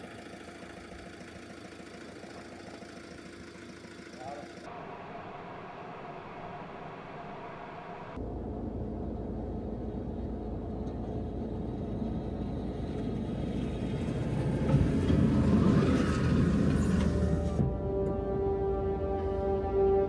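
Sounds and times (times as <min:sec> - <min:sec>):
van engine and road rumble: 0:00.0 - 0:05.8, 0:07.2 - 0:20.0.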